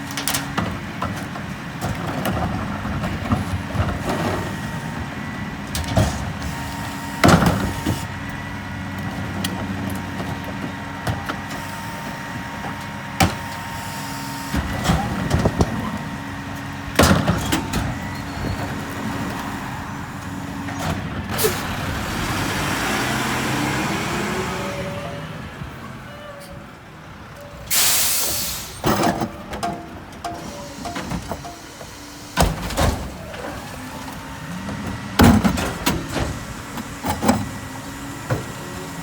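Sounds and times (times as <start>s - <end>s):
garbage truck running: 0.0s - 39.0s.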